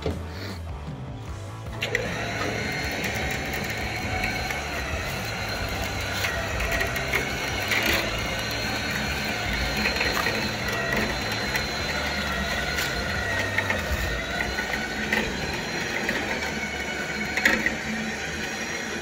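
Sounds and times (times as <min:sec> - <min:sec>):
winch reeling in cable: 0:01.8 - 0:19.0.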